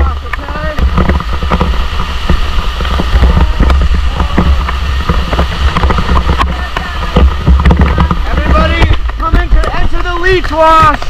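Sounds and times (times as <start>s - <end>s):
water buffeting microphone: 0.0s - 11.0s
water splashing and sloshing: 0.0s - 11.0s
waterfall rushing: 0.0s - 11.0s.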